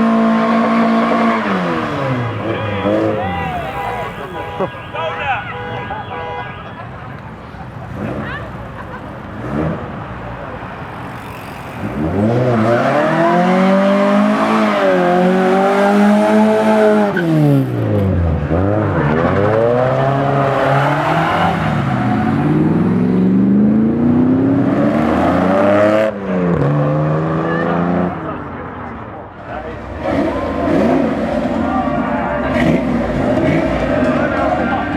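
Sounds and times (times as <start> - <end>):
car engine revving: 0.0 - 6.4, 7.2 - 34.9.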